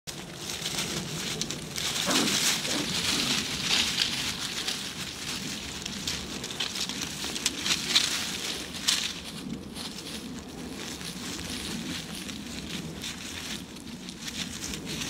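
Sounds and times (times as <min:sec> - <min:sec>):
puppies digging in dry leaves: 0:00.1 - 0:15.0.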